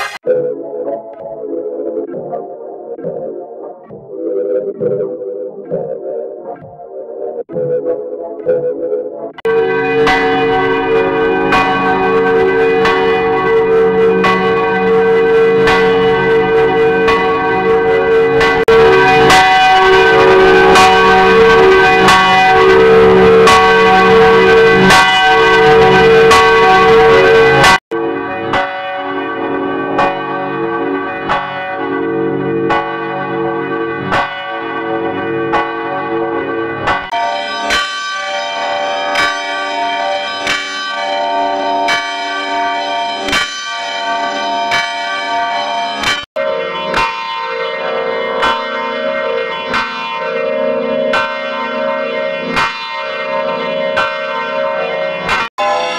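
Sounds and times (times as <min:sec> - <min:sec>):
church bells ringing: 0:09.4 - 0:55.9.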